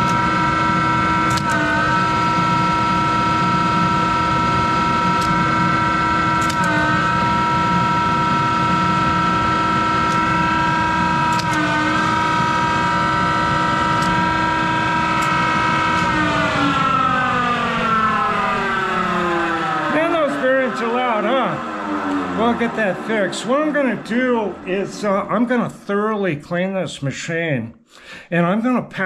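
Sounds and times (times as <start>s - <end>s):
lathe motor drive whine: 0.0s - 26.2s.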